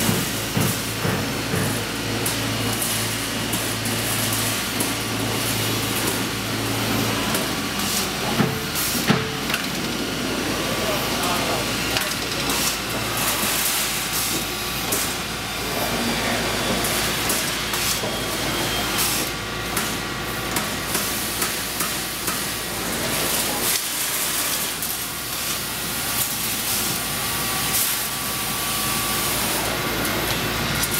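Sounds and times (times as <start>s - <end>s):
machine hiss and hum: 0.0s - 30.9s.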